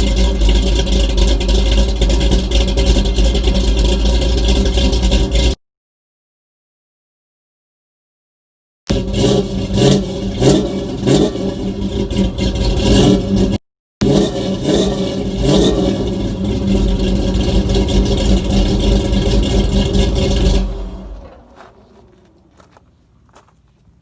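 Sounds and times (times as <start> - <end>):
car engine revving: 0.0 - 5.6, 8.9 - 23.5.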